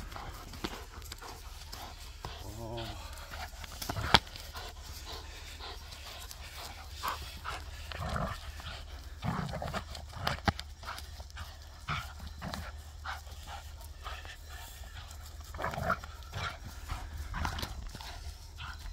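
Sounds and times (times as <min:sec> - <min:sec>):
dog breathing: 0:00.0 - 0:18.9.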